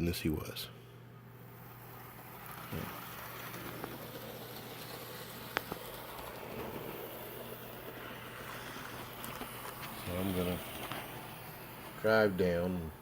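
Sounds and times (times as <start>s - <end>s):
model train motor humming: 1.3s - 13.0s
wheels on rails: 1.4s - 13.0s.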